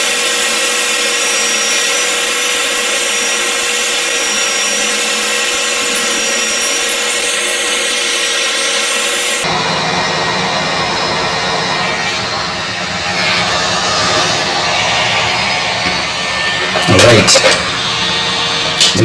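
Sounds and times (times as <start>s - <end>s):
hot air gun blowing: 0.0s - 9.6s, 10.6s - 19.0s.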